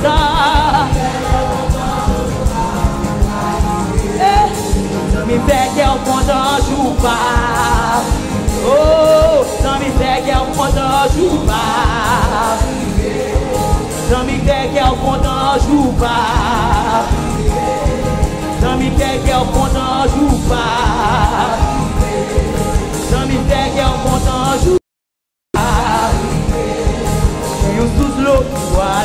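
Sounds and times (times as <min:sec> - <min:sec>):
band with steady drum beat: 0:00.0 - 0:24.8, 0:25.6 - 0:29.0
woman singing with vibrato: 0:00.0 - 0:24.8, 0:25.6 - 0:29.0.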